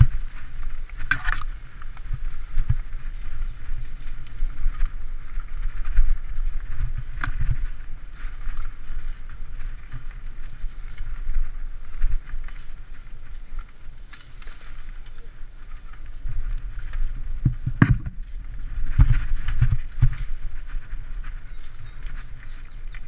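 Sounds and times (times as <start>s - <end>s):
bike knocks and rattles: 0.0s - 23.0s
bike tyre noise: 0.0s - 23.0s
wind rumbling on microphone: 0.0s - 23.0s.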